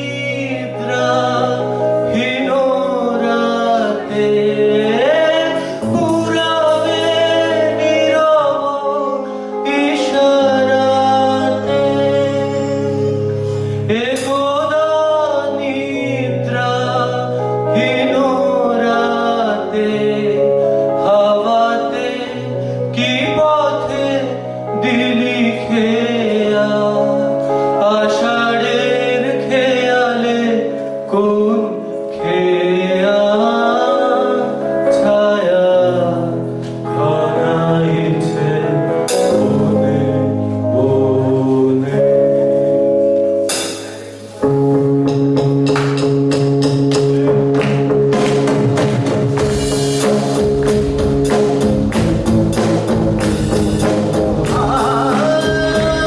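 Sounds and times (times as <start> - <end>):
person singing long gliding notes: 0.0 - 43.5, 53.3 - 56.0.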